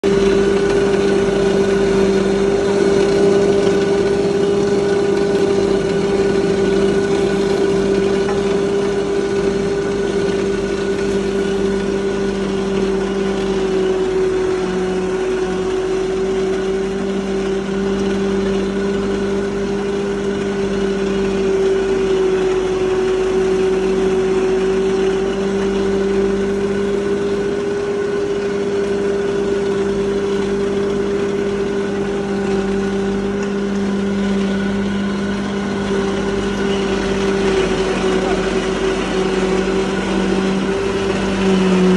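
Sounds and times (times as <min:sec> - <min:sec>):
grinding machine humming and whining: 0:00.0 - 0:41.9.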